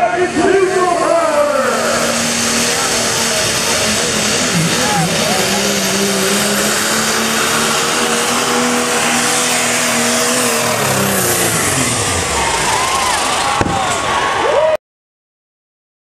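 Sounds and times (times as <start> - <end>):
diesel truck engine revving under load: 0.0 - 14.4.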